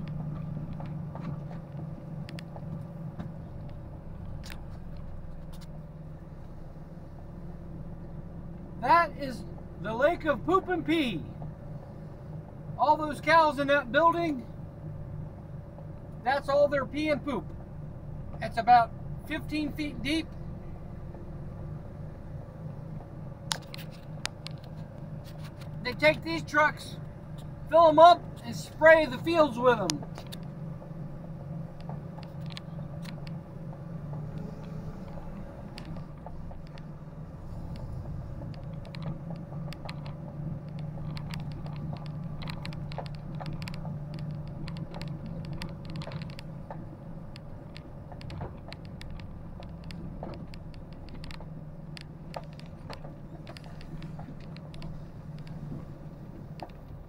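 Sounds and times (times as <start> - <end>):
rattling clicks and creaks: 0.0 - 11.7, 15.7 - 57.0
vehicle engine humming: 0.0 - 57.0.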